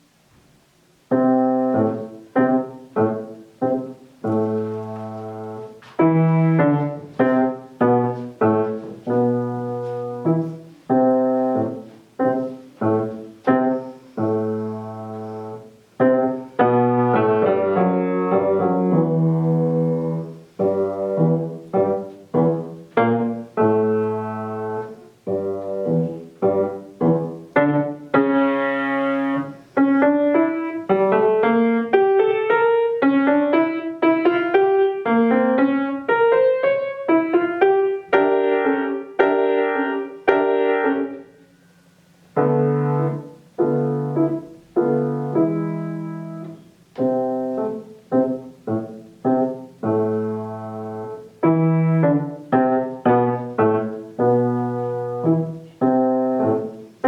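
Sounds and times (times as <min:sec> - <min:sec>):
slow solo piano piece: 0:00.0 - 0:57.0.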